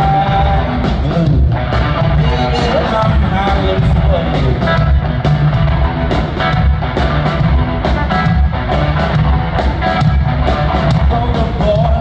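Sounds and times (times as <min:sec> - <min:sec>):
bass: 0:00.0 - 0:12.0
electric guitar: 0:00.0 - 0:12.0
rock drum beat: 0:00.0 - 0:12.0.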